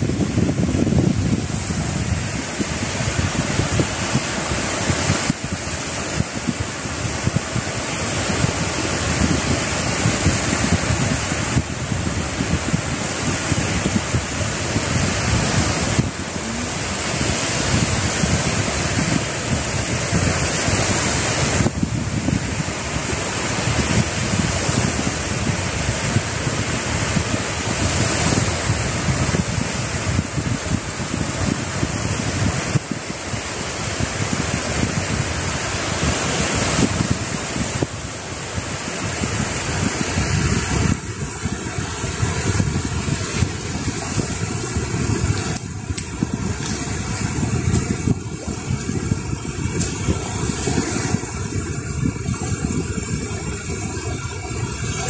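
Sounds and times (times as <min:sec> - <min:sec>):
waves breaking on pebble beach: 0:00.0 - 0:55.0
wind buffeting microphone: 0:00.0 - 0:55.0.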